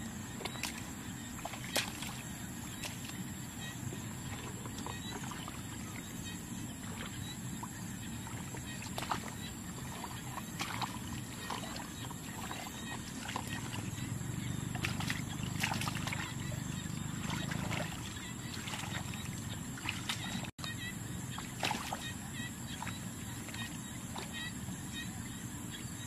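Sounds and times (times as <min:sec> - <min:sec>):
muddy water splashing: 0:00.0 - 0:25.5.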